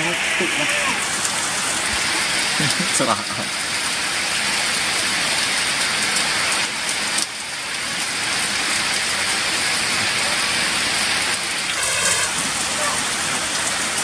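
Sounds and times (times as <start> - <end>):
heavy rain on paving: 0.0 - 14.0.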